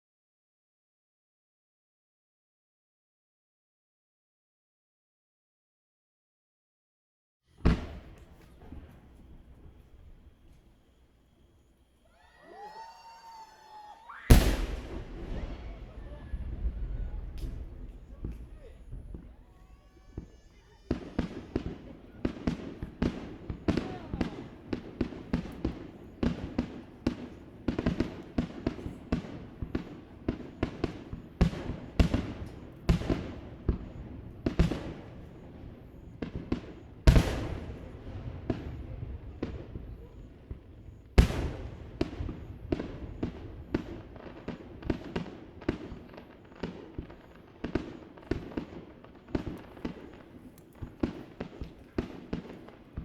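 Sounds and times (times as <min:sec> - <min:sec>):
fireworks bangs with echo: 0:07.6 - 0:10.7, 0:12.1 - 0:53.0.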